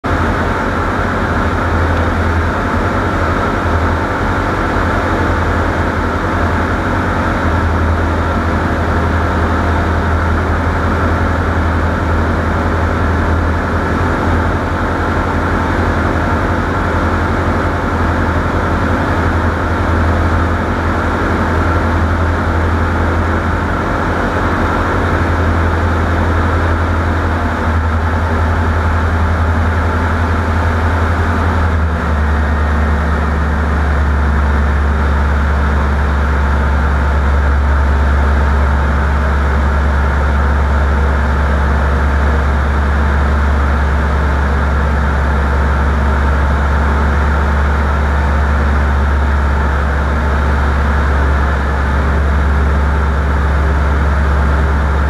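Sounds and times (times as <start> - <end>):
vehicle engine drone: 0.0 - 55.0.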